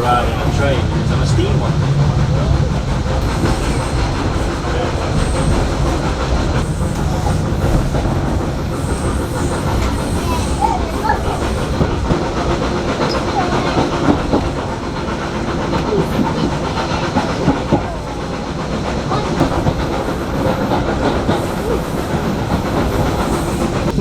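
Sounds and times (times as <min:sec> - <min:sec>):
railway carriage rumble and rattle: 0:00.0 - 0:24.0.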